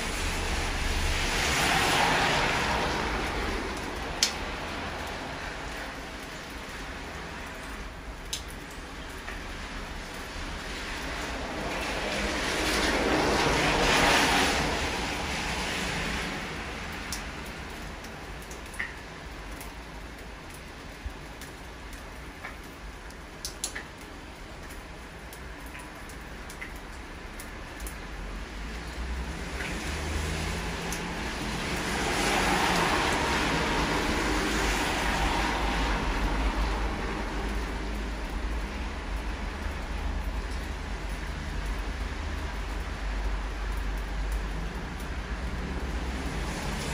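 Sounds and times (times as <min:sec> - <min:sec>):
tyres hissing on wet road: 0:00.0 - 0:08.4, 0:09.4 - 0:20.4, 0:27.1 - 0:46.9
rain falling: 0:00.0 - 0:46.9.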